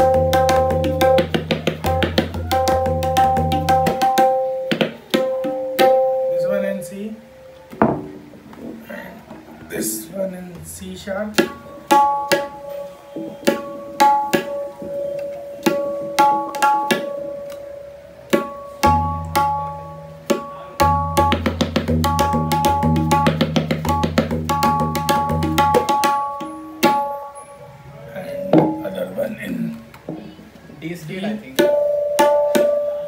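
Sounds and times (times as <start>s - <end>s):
tabla ringing tuned strokes: 0.0s - 7.7s, 11.3s - 29.4s, 31.6s - 33.0s.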